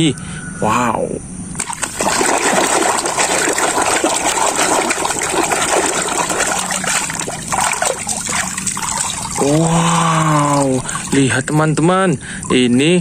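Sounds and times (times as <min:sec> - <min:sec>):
water sloshing in a tub: 0:01.6 - 0:13.0.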